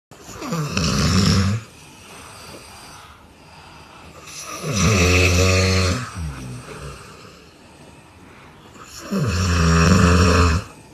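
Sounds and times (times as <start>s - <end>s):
person snoring: 0.2s - 7.6s, 8.8s - 10.9s.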